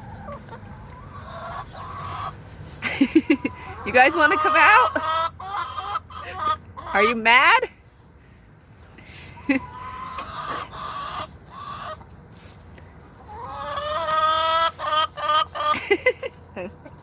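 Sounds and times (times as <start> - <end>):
hen clucking and squawking: 0.0 - 7.6, 9.0 - 17.0.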